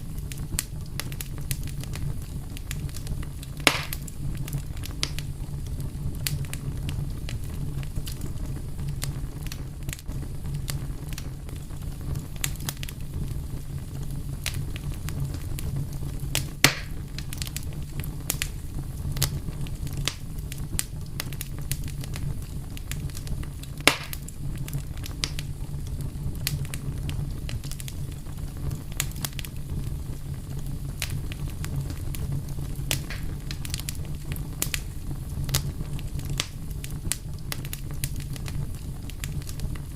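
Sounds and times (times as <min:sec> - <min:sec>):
fire crackling: 0:00.0 - 0:39.9
loud fire pops: 0:00.0 - 0:39.9.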